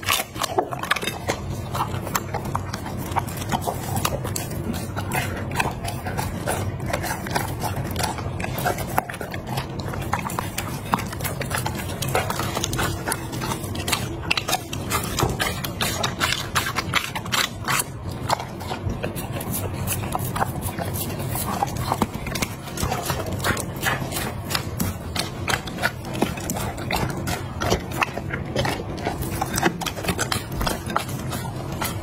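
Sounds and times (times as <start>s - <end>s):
dog chewing and licking: 0.0s - 32.0s.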